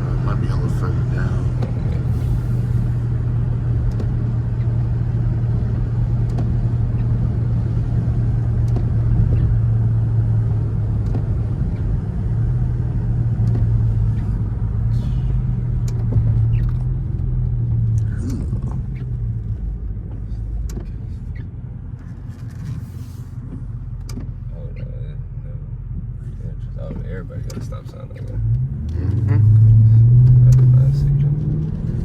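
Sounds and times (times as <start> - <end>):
car engine droning: 0.0 - 32.0
tyre and road noise: 0.0 - 32.0.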